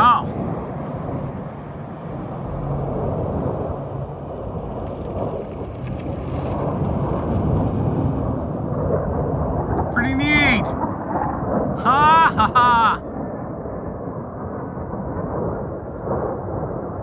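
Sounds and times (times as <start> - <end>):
jet engine rumble overhead: 0.0 - 17.0.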